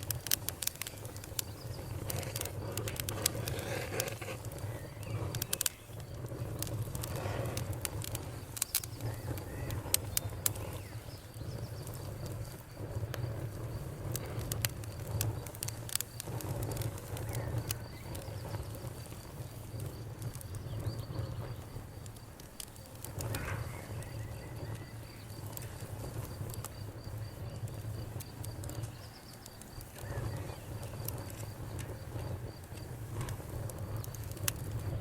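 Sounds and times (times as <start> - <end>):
bonfire crackling: 0.0 - 35.0
faint crickets chirping: 0.0 - 35.0.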